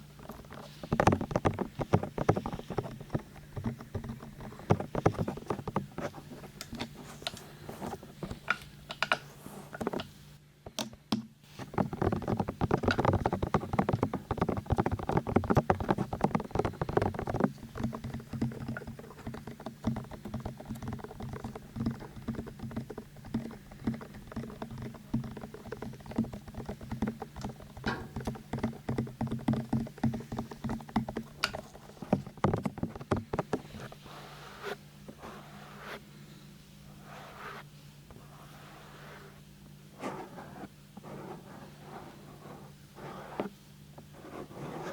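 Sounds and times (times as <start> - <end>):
fingertip tapping and scratching: 0.0 - 10.1, 11.5 - 36.0, 40.0 - 44.9.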